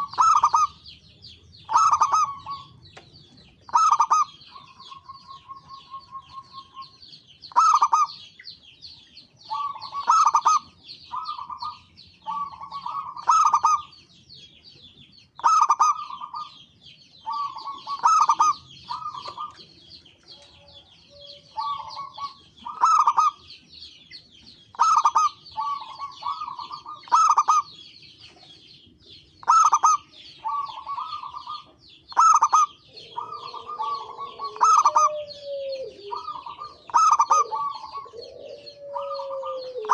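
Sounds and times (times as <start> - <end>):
doves cooing: 0.0 - 8.3, 9.4 - 14.0, 15.4 - 23.5, 24.7 - 28.7, 29.4 - 39.9.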